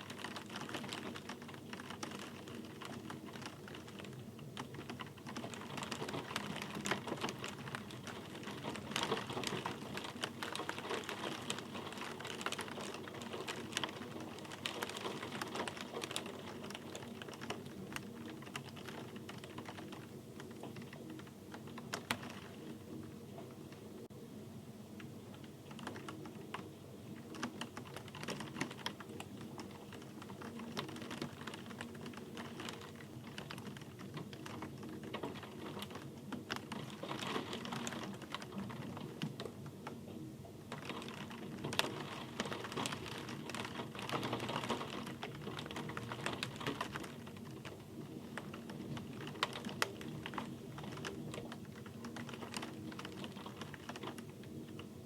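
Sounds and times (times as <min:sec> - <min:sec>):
rain pattering on a hard surface: 0:00.0 - 0:24.1, 0:24.9 - 0:55.0.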